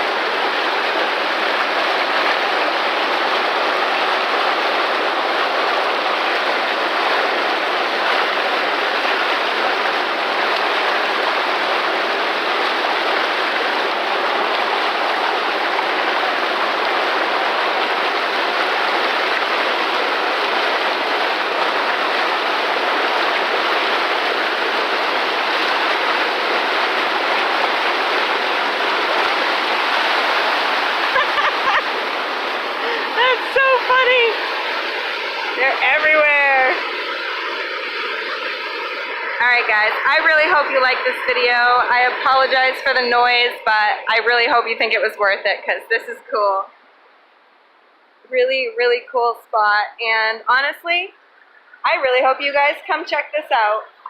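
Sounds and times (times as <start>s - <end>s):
water rushing over rocks: 0.0s - 45.6s.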